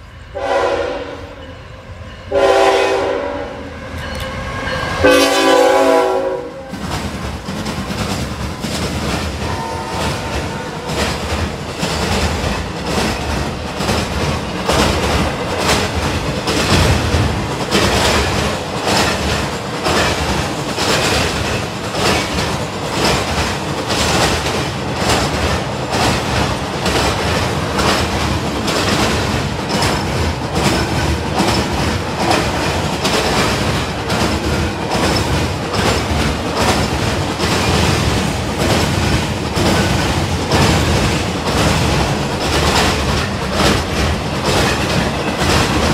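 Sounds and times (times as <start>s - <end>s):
train wheels rumbling on rail: 0.0s - 45.9s
wheels clacking over rail joints: 4.9s - 45.9s.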